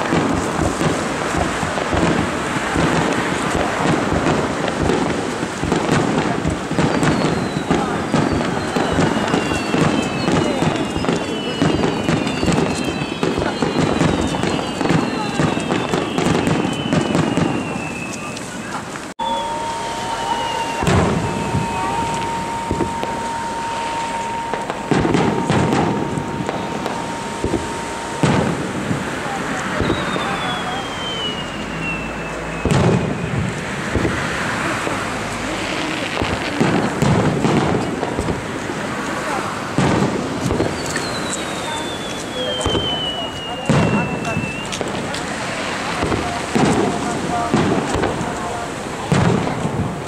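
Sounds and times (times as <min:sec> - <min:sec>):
fireworks booming and crackling: 0:00.0 - 0:50.0.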